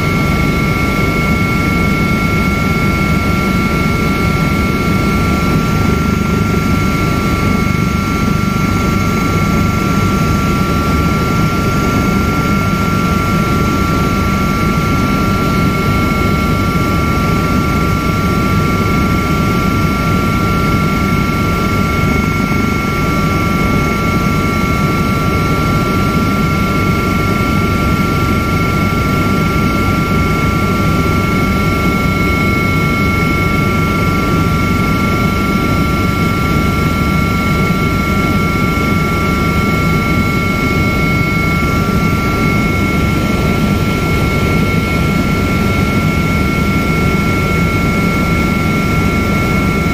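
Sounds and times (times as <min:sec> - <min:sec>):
helicopter cabin rumble: 0:00.0 - 0:49.9.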